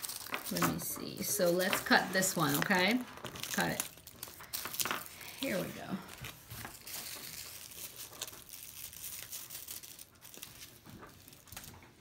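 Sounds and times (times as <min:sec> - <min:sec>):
packing wrap crinkling: 0:00.0 - 0:12.0.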